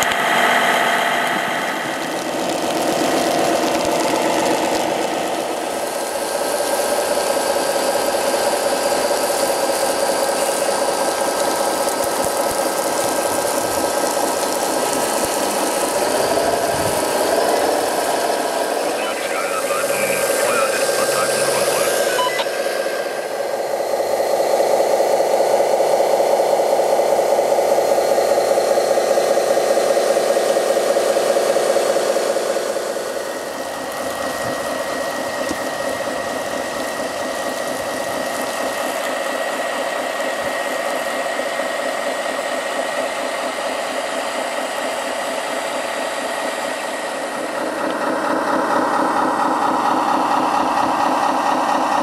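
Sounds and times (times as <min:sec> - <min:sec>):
water pump motors whirring: 0:00.0 - 0:52.0.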